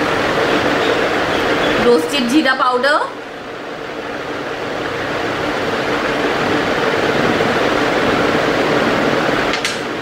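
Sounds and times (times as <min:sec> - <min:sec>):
mechanical droning: 0:00.0 - 0:10.0.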